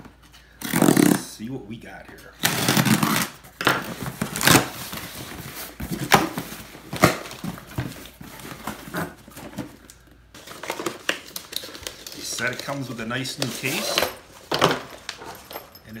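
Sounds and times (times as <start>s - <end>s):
cardboard rustling and scraping: 2.6s - 15.6s.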